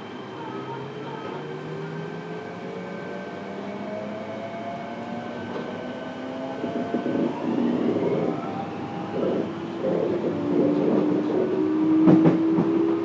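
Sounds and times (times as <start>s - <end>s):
train drive whine rising: 0.0s - 13.0s.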